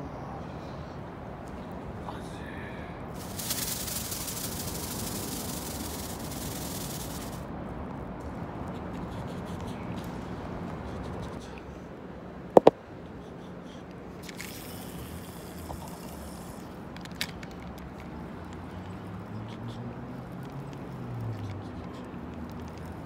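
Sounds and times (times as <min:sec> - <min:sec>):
city background noise: 0:00.0 - 0:23.0.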